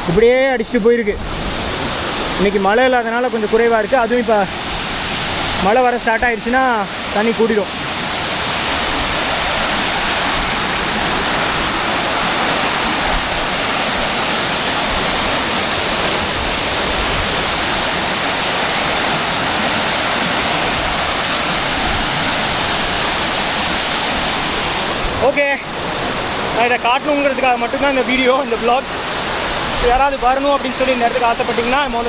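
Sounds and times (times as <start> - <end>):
waterfall rushing over rocks: 0.0 - 32.0.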